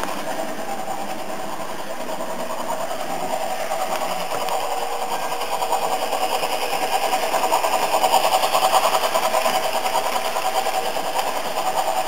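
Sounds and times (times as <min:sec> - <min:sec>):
steam chuffs through small speaker: 0:00.0 - 0:12.0.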